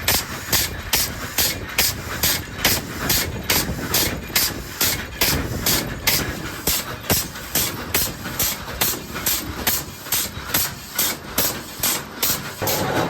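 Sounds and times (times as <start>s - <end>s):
constant machinery noise: 0.0s - 13.0s
metalworking machine striking: 0.0s - 13.0s.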